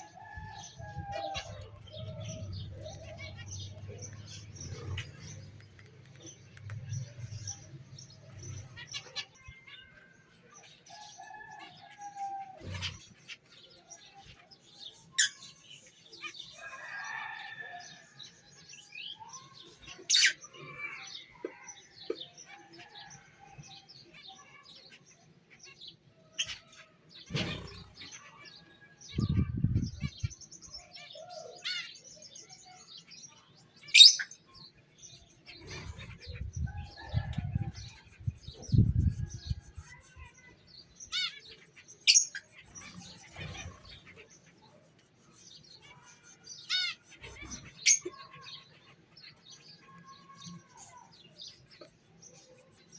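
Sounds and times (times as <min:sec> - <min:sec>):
pet birds chirping: 0:00.0 - 0:52.9.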